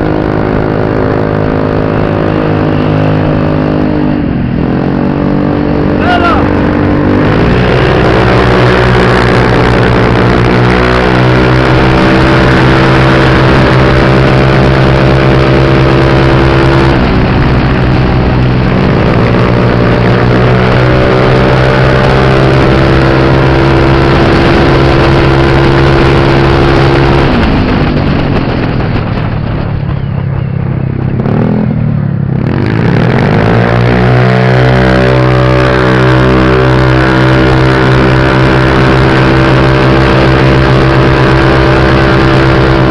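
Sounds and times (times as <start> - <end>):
motorbike engine revving: 0.0 - 42.9.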